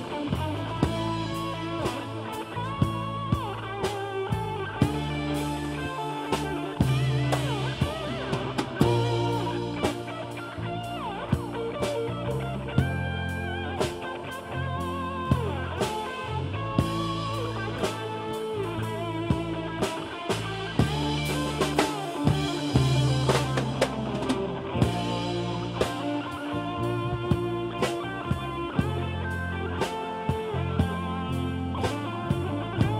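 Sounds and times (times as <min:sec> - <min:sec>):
bass line: 0:00.0 - 0:32.9
drum-kit beat: 0:00.0 - 0:32.9
electric guitar bent notes: 0:00.0 - 0:32.9.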